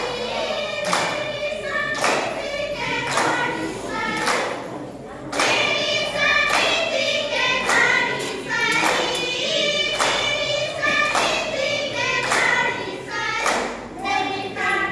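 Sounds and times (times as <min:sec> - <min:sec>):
group of voices singing: 0:00.0 - 0:14.9.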